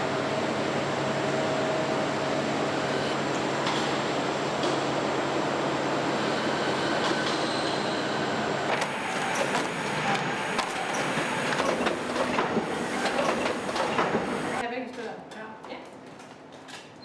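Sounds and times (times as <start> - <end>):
machinery hum and whir: 0.0 - 14.6.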